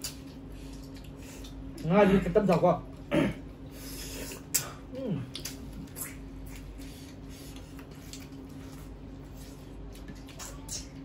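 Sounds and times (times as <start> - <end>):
chewing and lip smacks: 0.0 - 2.6, 4.2 - 11.0.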